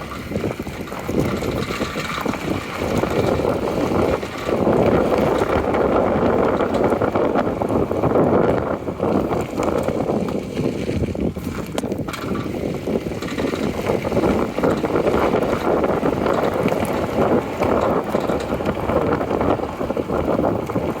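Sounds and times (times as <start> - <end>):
brake caliper knocks and rattles: 0.0 - 21.0
car road noise: 0.0 - 21.0.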